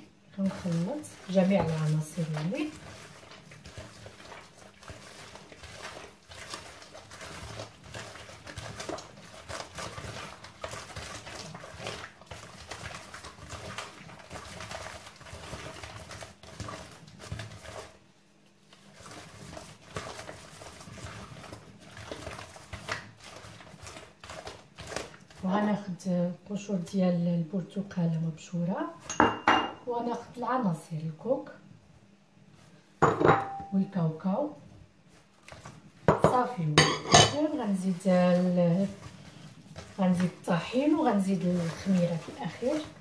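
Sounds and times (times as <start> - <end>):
hands squishing wet dough: 0.0 - 27.5, 35.0 - 36.5, 37.4 - 43.0.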